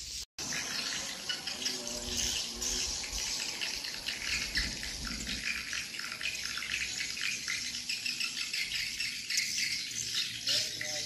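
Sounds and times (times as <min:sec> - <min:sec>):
swiftlets chirping: 0:00.4 - 0:11.0.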